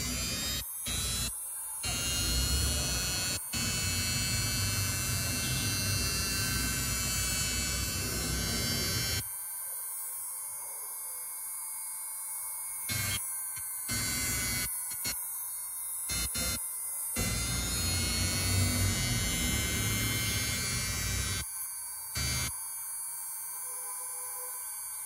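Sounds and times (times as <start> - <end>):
electric grinder high whine: 0.0 - 22.6.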